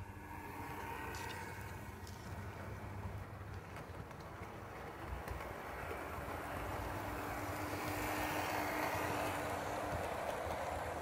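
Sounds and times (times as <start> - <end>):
model train wheels rumbling: 0.0 - 11.0.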